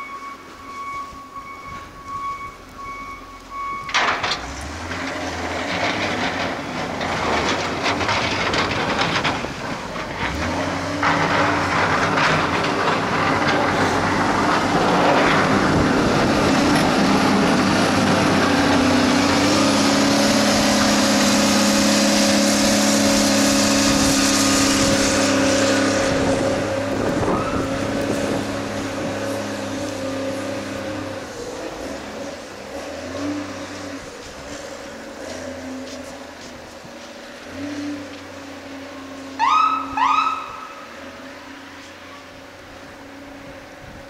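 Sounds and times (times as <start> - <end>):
diesel loader engine under load: 0.0 - 44.0
plow blade pushing snow: 0.0 - 44.0.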